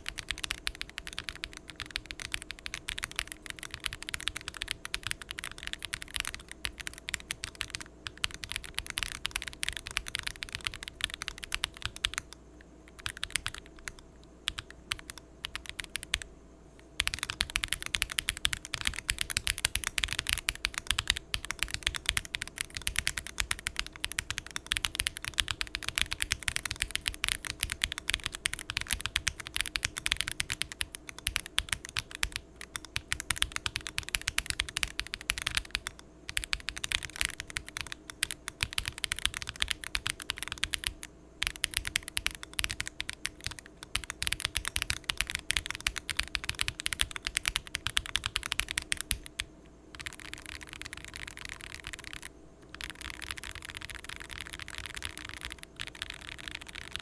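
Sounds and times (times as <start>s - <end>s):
mechanical keyboard typing: 0.0s - 16.3s, 17.0s - 57.0s.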